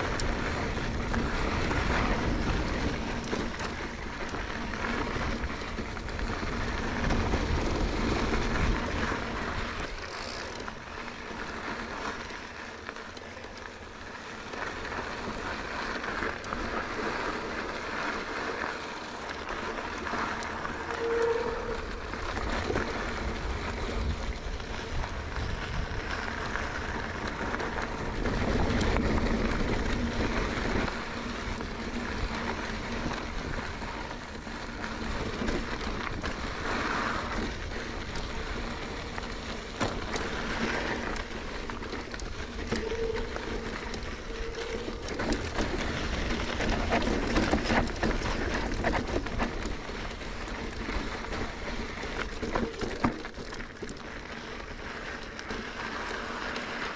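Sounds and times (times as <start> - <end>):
bike rattling and knocking: 0.0 - 56.9
tyres crunching over gravel: 0.0 - 56.9.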